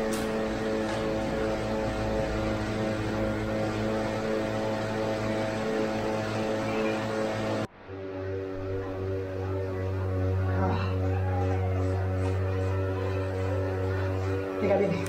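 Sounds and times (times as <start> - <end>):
bicycle trainer whine and hum: 0.0 - 15.0.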